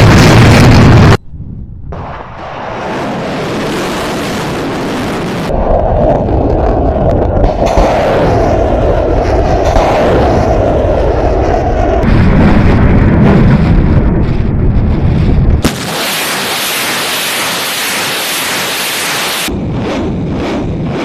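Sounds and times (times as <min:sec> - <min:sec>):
missile launch rushing: 0:01.9 - 0:21.0.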